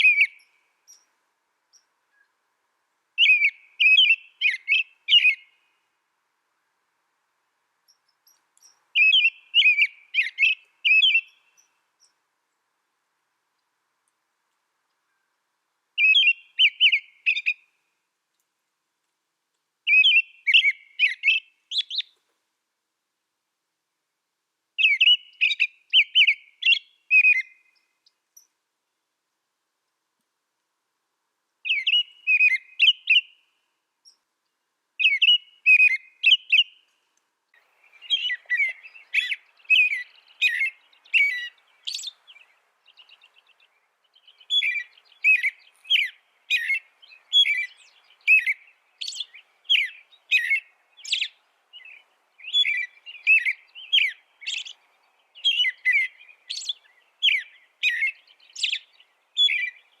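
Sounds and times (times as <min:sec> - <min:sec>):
songbird singing: 0:00.0 - 0:18.6, 0:19.5 - 0:22.4, 0:24.7 - 0:30.4, 0:31.0 - 1:00.0.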